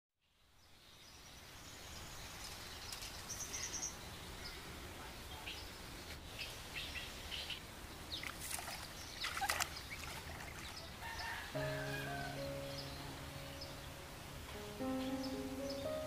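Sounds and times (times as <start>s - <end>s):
outdoor background noise: 0.2s - 16.0s
small birds chirping: 0.2s - 16.0s.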